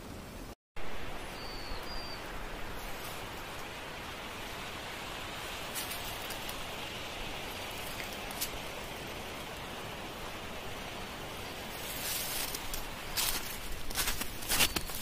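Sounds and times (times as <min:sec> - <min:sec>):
outdoor ambience hiss: 0:00.0 - 0:15.0
rustle: 0:00.0 - 0:15.0.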